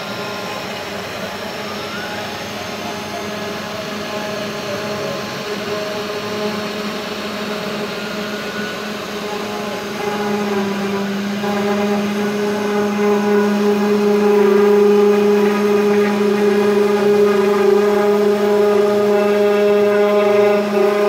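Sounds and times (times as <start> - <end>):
router spindle whining: 0.0 - 21.0.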